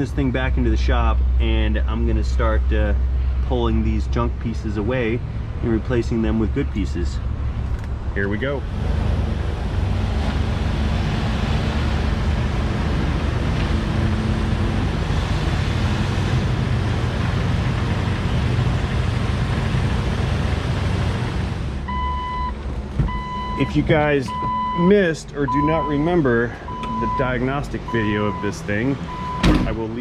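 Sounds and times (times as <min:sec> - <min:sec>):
car engine running: 0:01.4 - 0:30.0.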